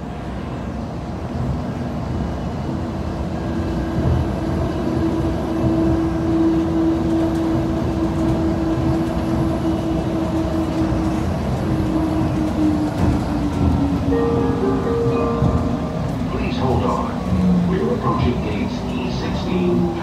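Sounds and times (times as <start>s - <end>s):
train low rumble: 0.0s - 20.0s.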